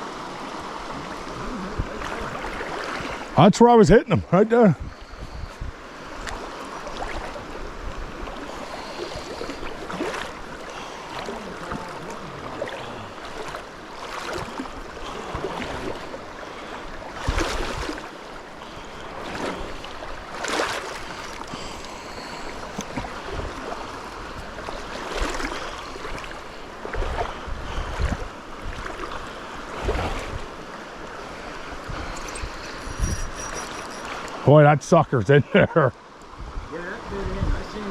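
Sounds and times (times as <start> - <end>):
creek water running: 0.0 - 37.9.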